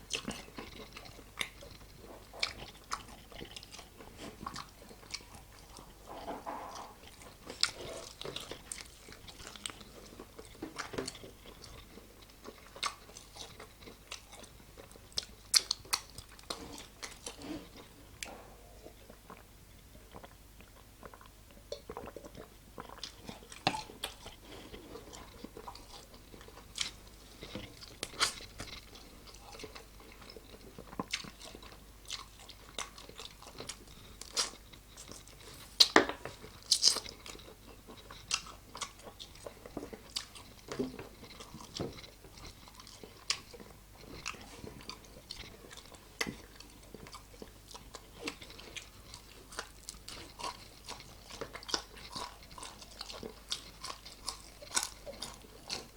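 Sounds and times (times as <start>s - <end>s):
wet chewing: 0.0s - 55.9s.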